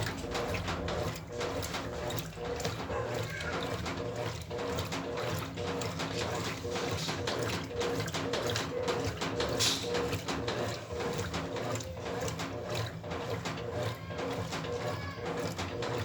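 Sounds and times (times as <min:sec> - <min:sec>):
washing machine motor pulsing: 0:00.0 - 0:16.0
water sloshing in drum: 0:00.0 - 0:16.0.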